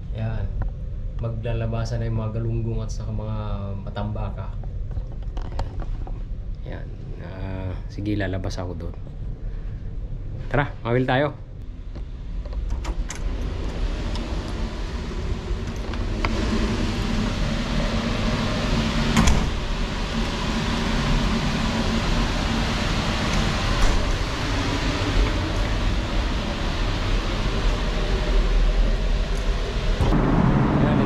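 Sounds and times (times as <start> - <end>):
machinery and ventilation hum: 0.0 - 31.0.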